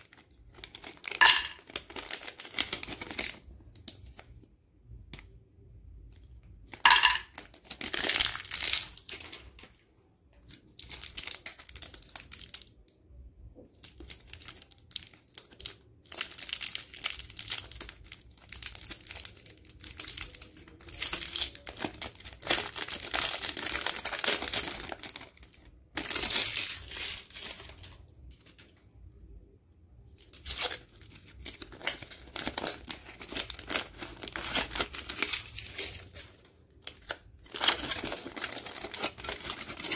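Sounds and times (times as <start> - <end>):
wrappers tearing and crinkling: 0.0 - 4.2, 7.4 - 9.7, 10.5 - 12.7, 13.8 - 28.8, 30.2 - 39.9.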